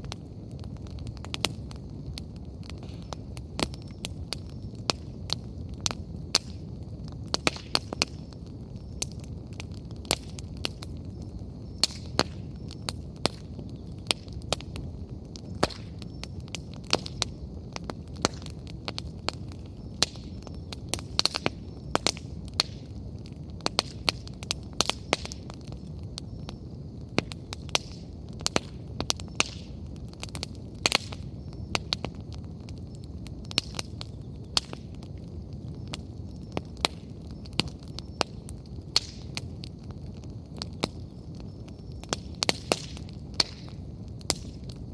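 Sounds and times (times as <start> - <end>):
firewood popping and snapping: 0.0 - 44.9
low rumble of flame: 0.0 - 44.9.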